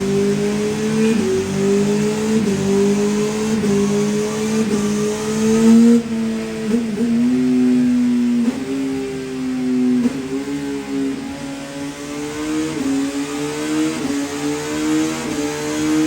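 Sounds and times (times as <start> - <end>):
motorcycle engine revving hard: 0.0 - 16.0.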